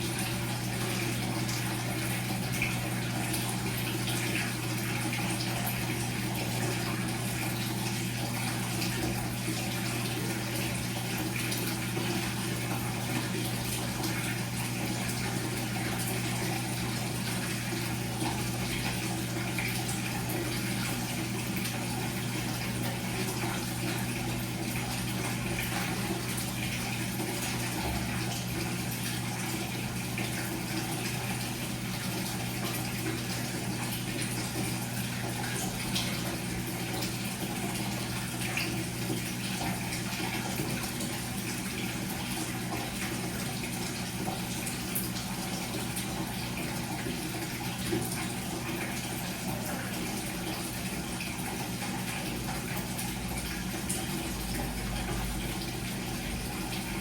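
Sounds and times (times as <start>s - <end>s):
washing machine hum: 0.0s - 57.0s
water rushing in washing machine: 0.0s - 57.0s.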